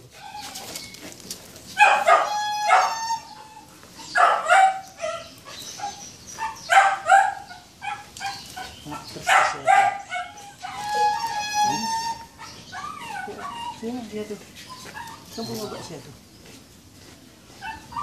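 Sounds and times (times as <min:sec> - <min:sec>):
dog yelping and whining: 0:00.1 - 0:01.0, 0:01.8 - 0:08.7, 0:09.5 - 0:16.0, 0:17.6 - 0:18.0.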